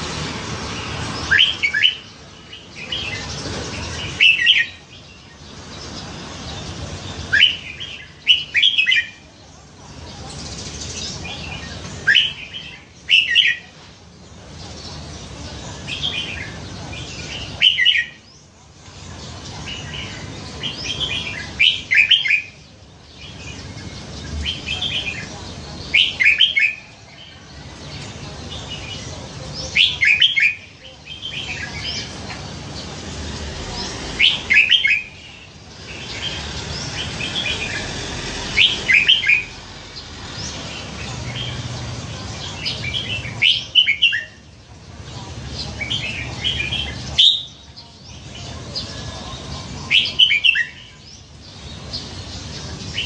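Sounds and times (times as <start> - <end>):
bulbul singing warbled phrases: 0.0 - 53.0.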